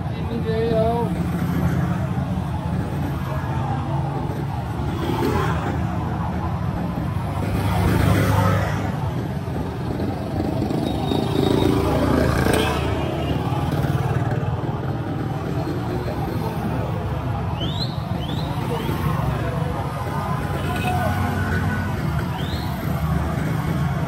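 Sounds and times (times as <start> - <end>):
vehicle engines rumbling: 0.0 - 24.0.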